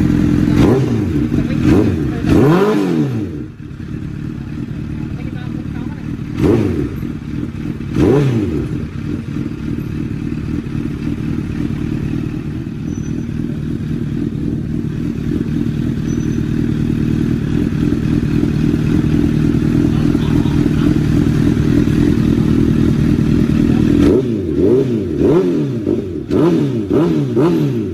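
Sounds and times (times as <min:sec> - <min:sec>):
motorcycle engine revving and idling: 0:00.0 - 0:27.9.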